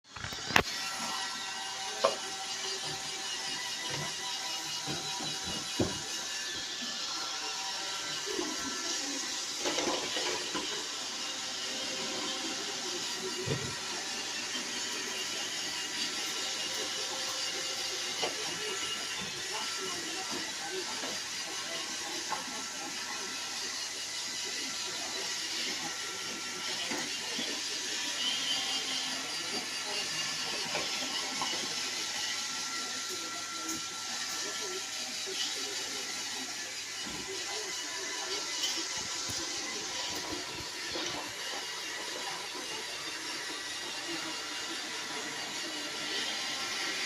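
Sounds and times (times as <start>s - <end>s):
robot vacuum running: 0.1s - 47.0s.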